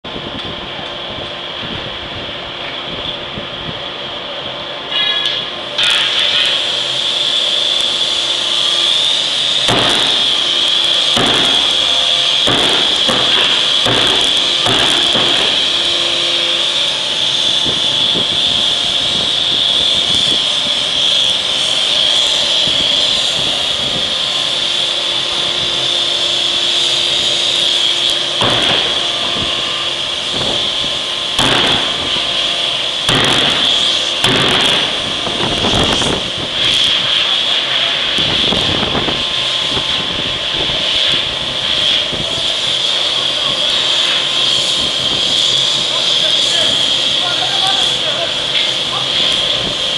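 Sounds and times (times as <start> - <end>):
high-pitched machinery hiss: 2.6 - 49.9
forging hammer blows: 4.9 - 49.9.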